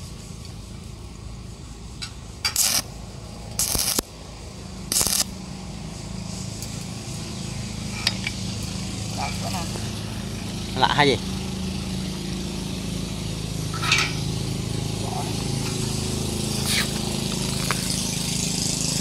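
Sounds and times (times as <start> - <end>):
welder low hum: 0.0 - 19.0
welding arc crackling: 2.4 - 4.2, 4.8 - 19.0.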